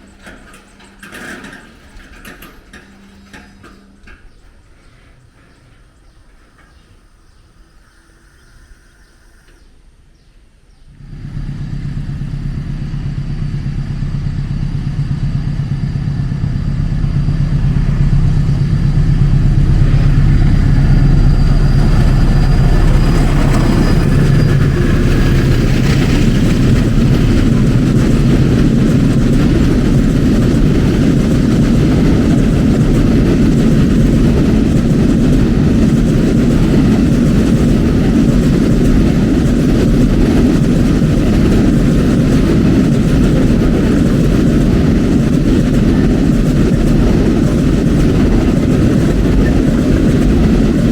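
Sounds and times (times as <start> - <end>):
diesel locomotive engine running: 0.0 - 50.9.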